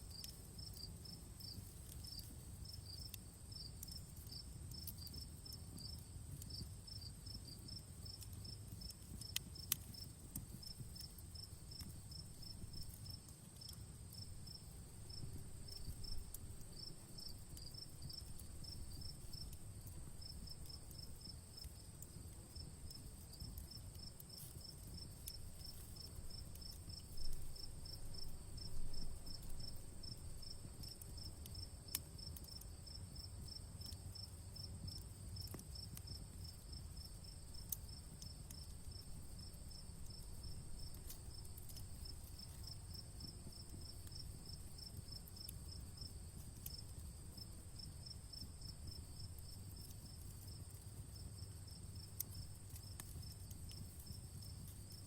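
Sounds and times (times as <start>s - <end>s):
campfire crackling: 0.0s - 55.0s
crickets chirping: 0.1s - 55.0s.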